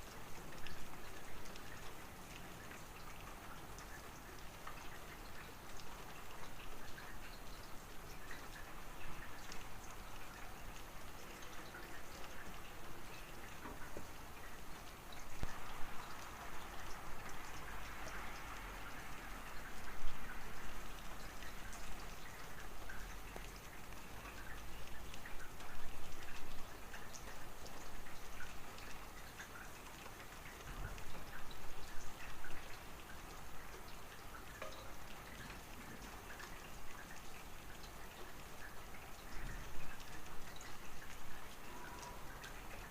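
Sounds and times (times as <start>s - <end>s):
rain hiss: 0.0s - 42.9s
raindrops pattering: 0.0s - 42.9s.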